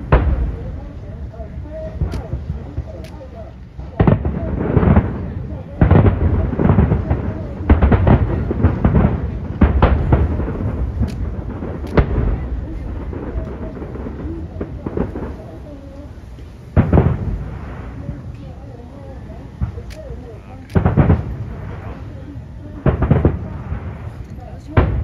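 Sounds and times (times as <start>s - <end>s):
fireworks booming: 0.0s - 25.0s
low rolling rumble: 0.0s - 25.0s.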